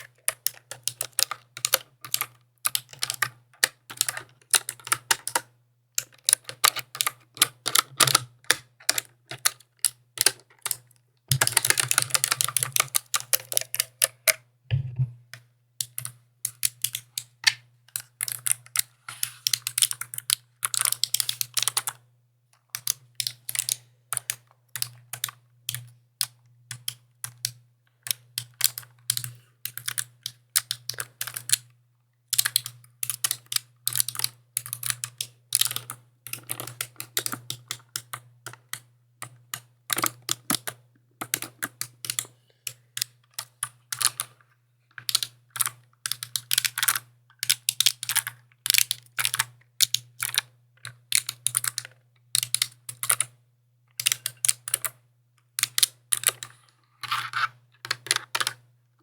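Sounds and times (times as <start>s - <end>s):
mechanical keyboard typing: 0.0s - 22.0s, 22.7s - 31.7s, 32.3s - 42.3s, 43.0s - 44.4s, 45.0s - 53.4s, 54.0s - 55.0s, 55.6s - 58.6s.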